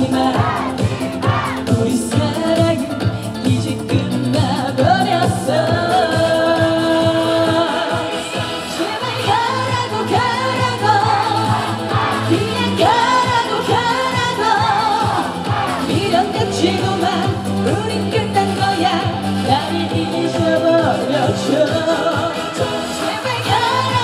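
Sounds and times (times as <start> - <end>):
band backing music: 0.0 - 24.0
woman singing with vibrato: 0.0 - 24.0.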